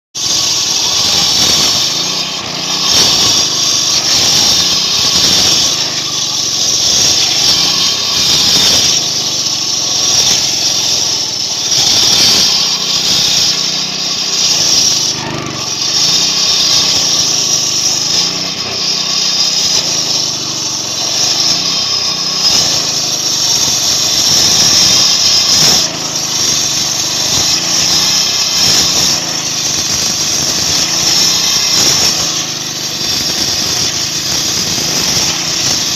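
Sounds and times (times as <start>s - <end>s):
saw blade whining in concrete: 0.2s - 35.9s
saw engine running: 0.2s - 35.9s.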